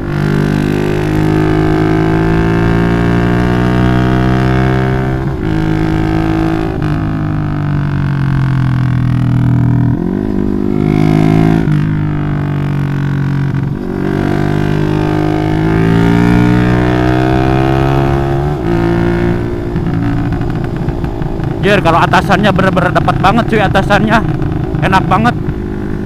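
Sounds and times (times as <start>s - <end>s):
motorcycle engine droning: 0.0s - 26.0s.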